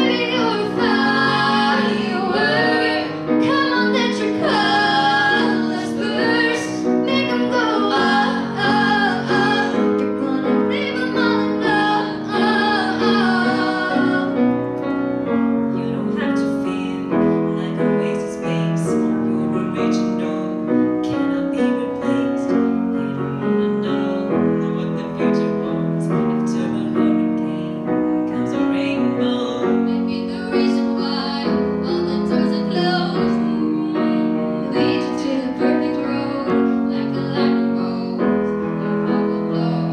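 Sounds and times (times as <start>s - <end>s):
woman singing: 0.0s - 14.6s, 15.7s - 39.9s
piano chords: 0.0s - 39.9s.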